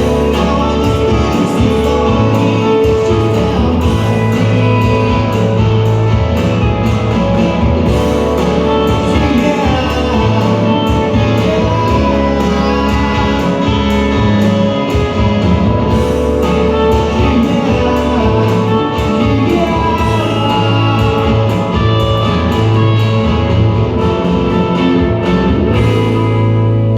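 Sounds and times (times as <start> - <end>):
bass guitar: 0.0 - 26.9
drums: 0.0 - 26.9
electric guitars: 0.0 - 26.9.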